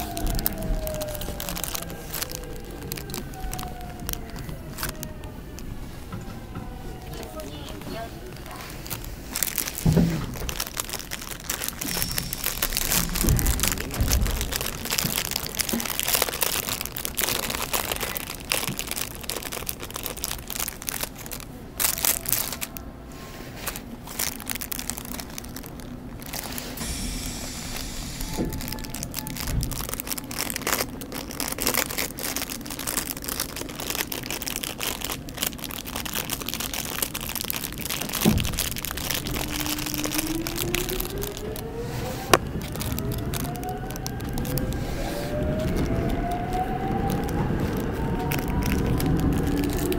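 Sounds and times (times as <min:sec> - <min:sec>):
crackling clicks and rattles: 0:00.0 - 0:49.9
subway car rumble: 0:00.0 - 0:49.9.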